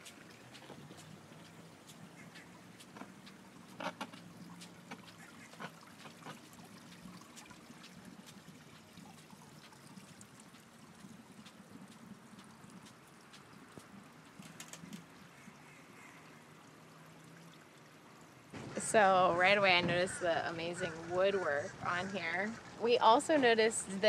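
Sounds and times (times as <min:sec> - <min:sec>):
low steady hum: 0:00.0 - 0:24.0
water lapping against hull: 0:00.0 - 0:24.0.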